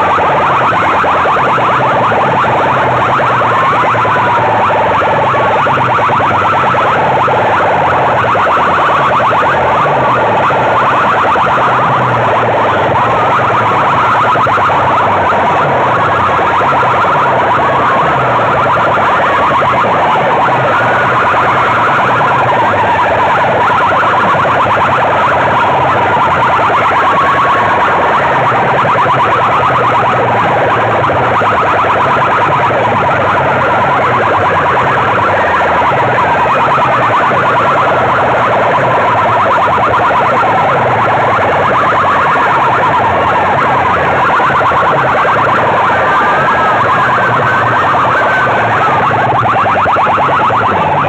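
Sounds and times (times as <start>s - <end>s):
loudspeakers blaring siren warble: 0.0s - 51.0s.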